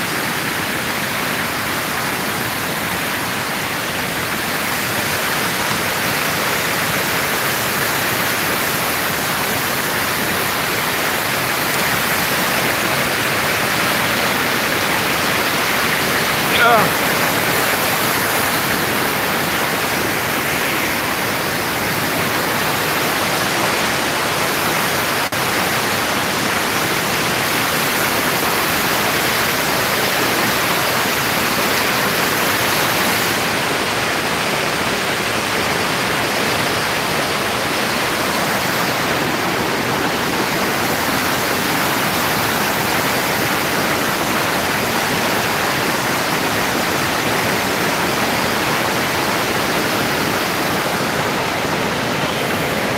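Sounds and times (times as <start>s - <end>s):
river rushing over boulders: 0.0s - 52.9s.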